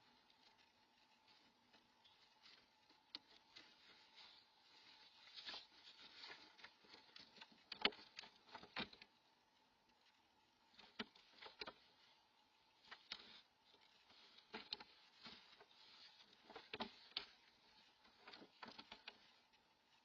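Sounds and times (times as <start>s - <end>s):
owl scratching and tapping: 0.0s - 20.0s.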